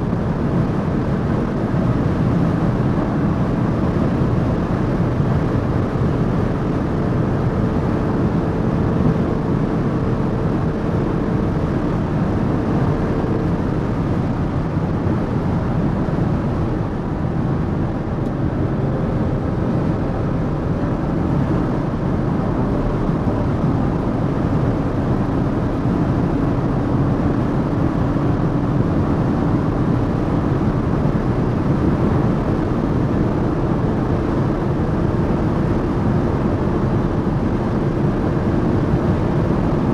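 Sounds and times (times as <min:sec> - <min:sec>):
car engine running: 0:00.0 - 0:39.9
wind rush: 0:00.0 - 0:39.9.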